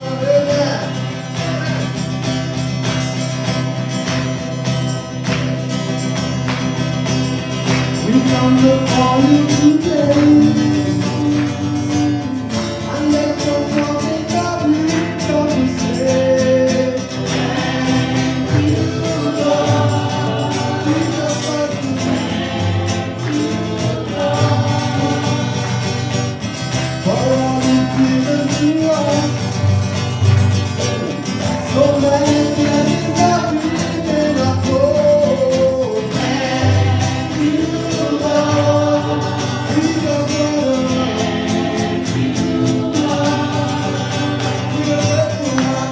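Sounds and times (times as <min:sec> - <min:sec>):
band with guitar and bass: 0:00.0 - 0:45.9
voices singing together: 0:05.4 - 0:45.9.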